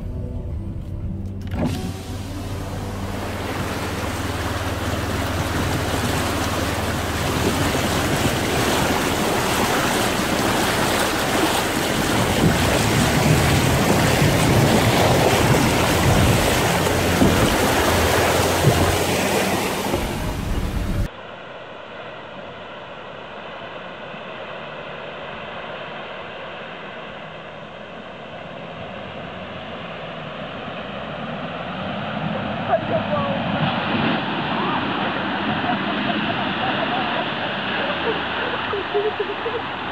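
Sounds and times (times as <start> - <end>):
river water rushing against vehicle: 1.2 - 22.6, 23.2 - 39.9.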